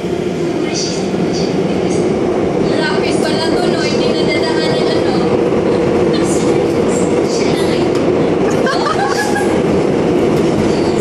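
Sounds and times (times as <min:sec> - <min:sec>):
subway train running: 0:00.0 - 0:11.0.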